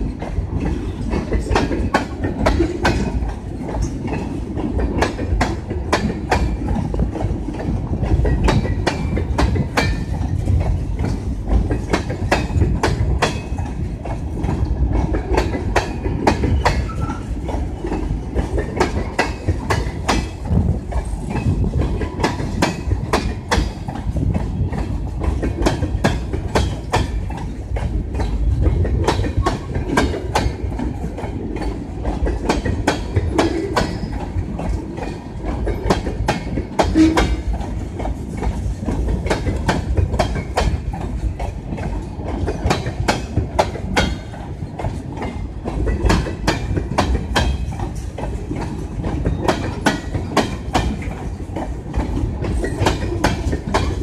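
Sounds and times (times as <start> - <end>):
freight train rumble: 0.0 - 54.0
wheels clicking over rail joints: 0.0 - 54.0.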